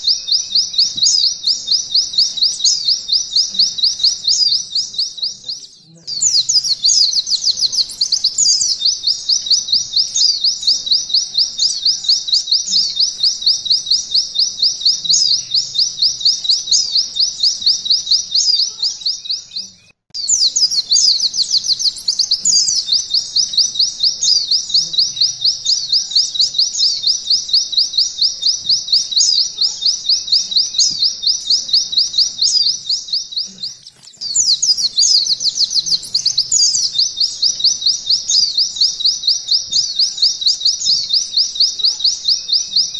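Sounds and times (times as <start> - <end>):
bird singing rapid high notes: 0.0 - 42.9.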